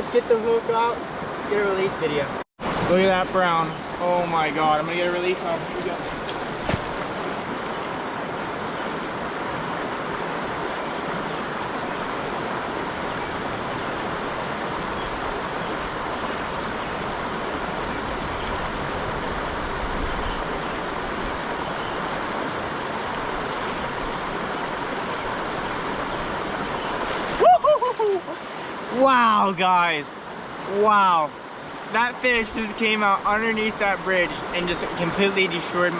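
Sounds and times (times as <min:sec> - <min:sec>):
creek water running: 0:00.0 - 0:35.9.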